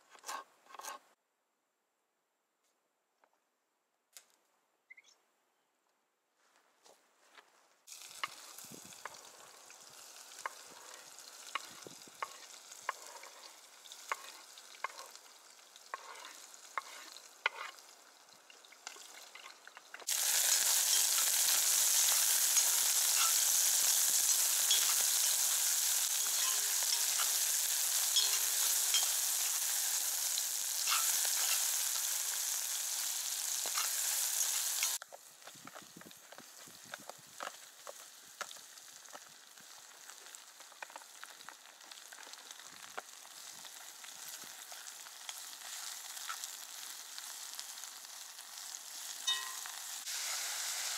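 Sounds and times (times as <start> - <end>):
vegetables sizzling in oil: 7.9 - 50.9.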